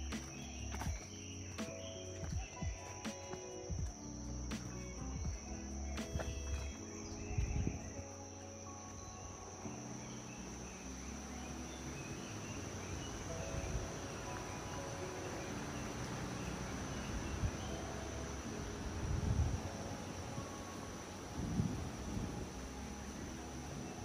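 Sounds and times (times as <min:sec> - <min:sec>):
crickets trilling: 0:00.0 - 0:24.0
soft background music: 0:00.0 - 0:24.0.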